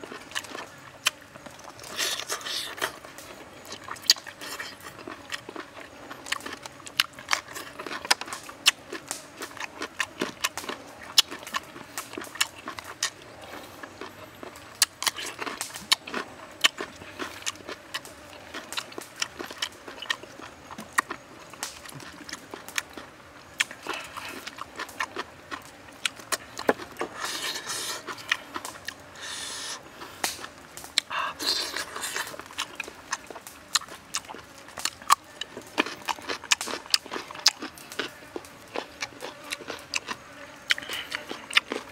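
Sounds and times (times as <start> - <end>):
chewing and lip-smacking: 0.0 - 41.9.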